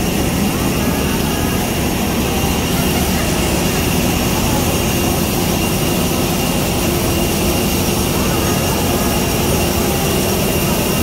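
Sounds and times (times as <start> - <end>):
jet turbine rumble and whine: 0.0 - 11.0.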